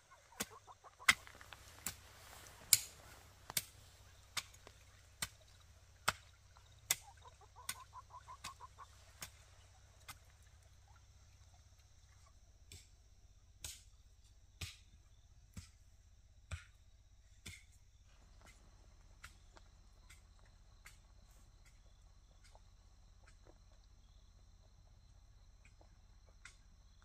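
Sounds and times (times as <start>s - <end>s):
faint ticks: 0.1s - 14.0s, 17.4s - 27.0s.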